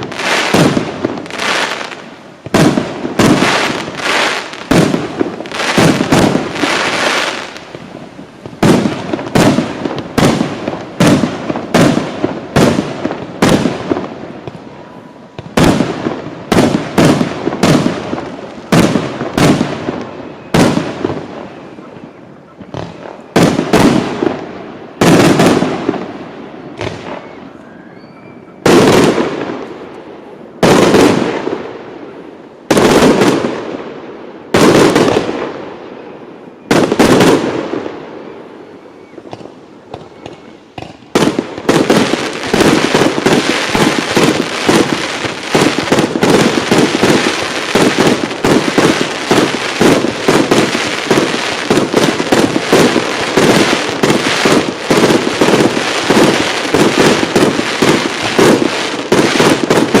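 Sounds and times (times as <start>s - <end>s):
rapid fireworks barrage: 0.0s - 27.5s, 28.6s - 60.0s
firework bursts: 0.0s - 60.0s.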